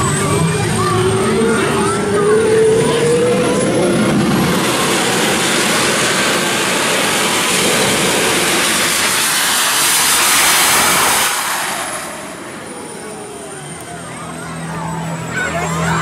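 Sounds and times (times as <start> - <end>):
jet engine rushing blast: 0.0 - 16.0.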